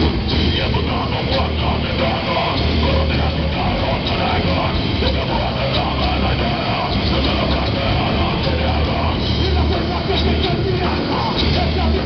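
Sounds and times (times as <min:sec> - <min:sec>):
heavy metal band playing: 0:00.0 - 0:12.0
singer shouting: 0:00.0 - 0:12.0.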